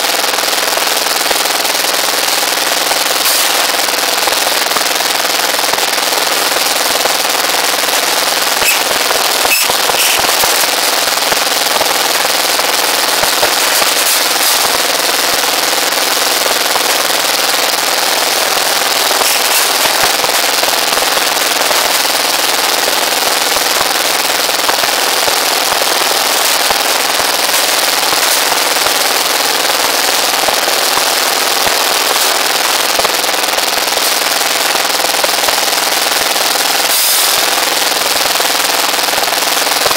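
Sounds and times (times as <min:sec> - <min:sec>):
rebar bending machine rattling: 0:02.3 - 0:39.9
small engine running: 0:06.2 - 0:38.4.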